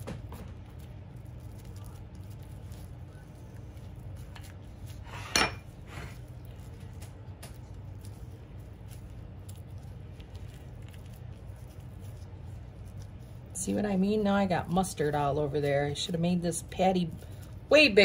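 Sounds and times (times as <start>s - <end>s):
plastic glove rustle: 0.0s - 18.0s
steady low hum: 0.0s - 18.0s.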